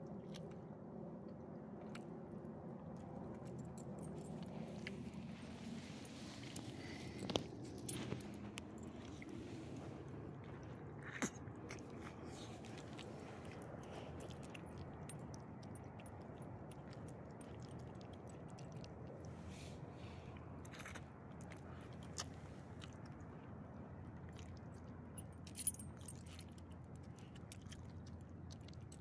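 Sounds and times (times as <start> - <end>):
dog licking and chewing food: 1.8 - 19.7, 20.3 - 29.0.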